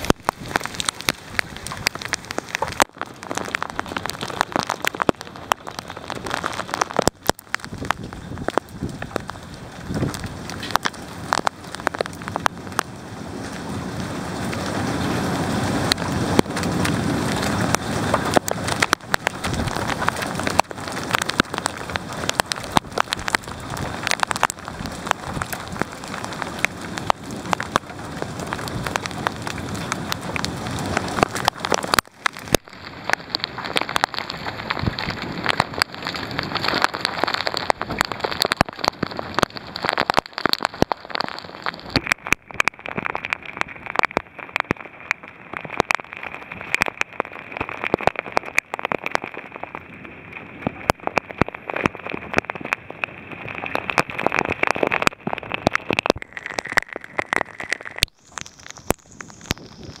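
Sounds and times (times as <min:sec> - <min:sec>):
hail taps near microphone: 0:00.0 - 1:00.0
heavy rain pouring: 0:00.0 - 1:00.0.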